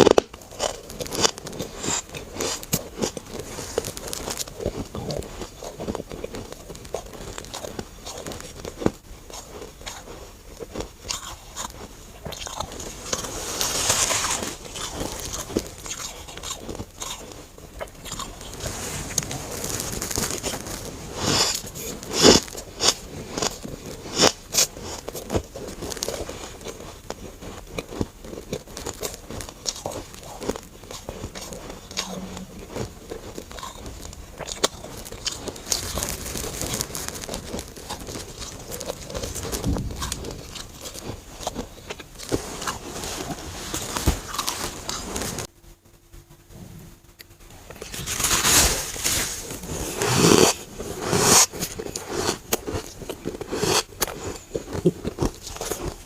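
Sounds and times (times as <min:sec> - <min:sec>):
frost being bitten and chewed: 0:00.0 - 0:45.5, 0:47.7 - 0:56.0.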